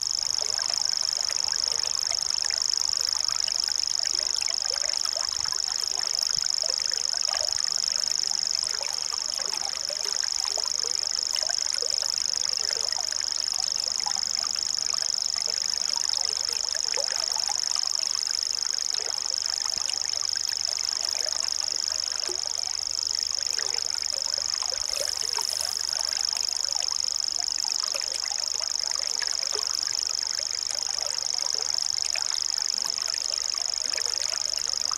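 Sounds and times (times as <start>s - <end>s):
small chirps and ticks: 0.0s - 34.9s.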